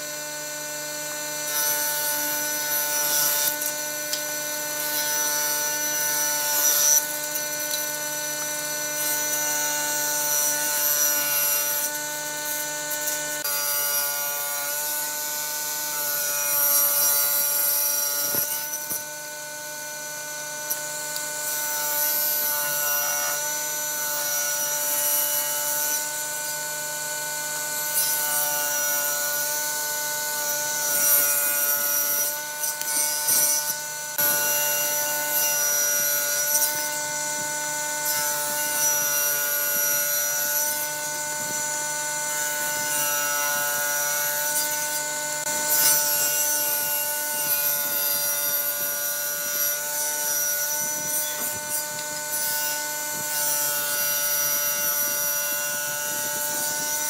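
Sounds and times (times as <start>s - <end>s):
power tool motor whine: 0.0s - 57.0s.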